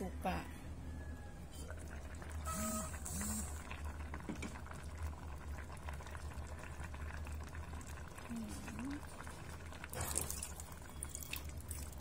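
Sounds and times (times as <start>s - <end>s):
sauce bubbling in a pot: 1.7s - 12.0s.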